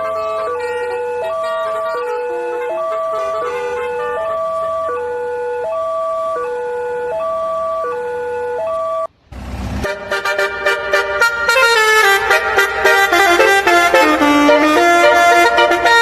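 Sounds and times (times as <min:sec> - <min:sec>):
melodic horn stepped tune: 0:00.0 - 0:09.1, 0:09.8 - 0:16.0.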